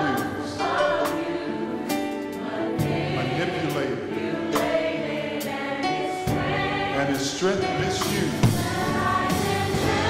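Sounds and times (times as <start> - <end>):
gospel choir singing: 0.0 - 10.0
instrumental accompaniment: 0.0 - 10.0.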